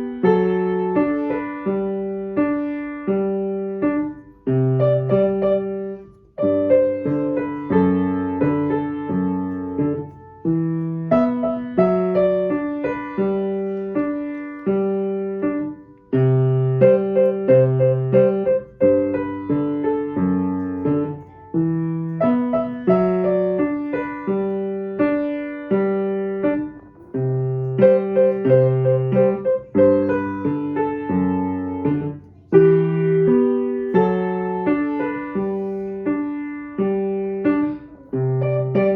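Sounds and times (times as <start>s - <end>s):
gentle solo piano: 0.0s - 38.9s.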